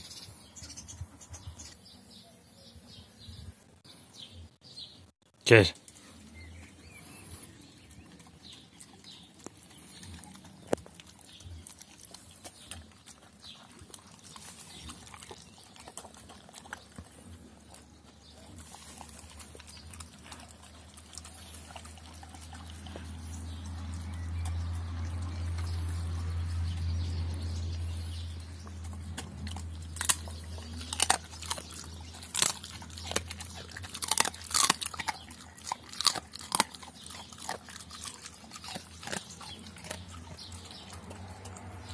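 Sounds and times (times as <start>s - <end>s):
dog eating wet food: 6.4s - 41.9s
dog chomping and crunching: 7.3s - 41.9s.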